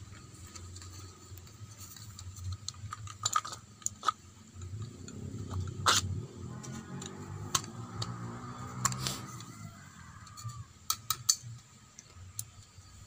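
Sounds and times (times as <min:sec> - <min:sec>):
tool parts clicking and knocking: 0:00.1 - 0:09.6, 0:10.2 - 0:12.8.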